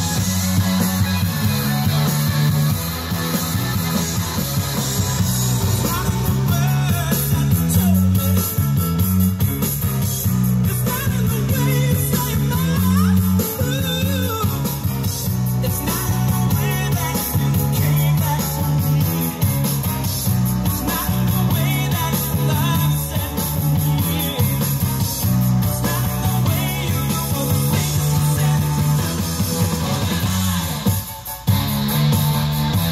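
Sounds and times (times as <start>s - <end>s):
song with guitar and beat: 0.0s - 32.9s.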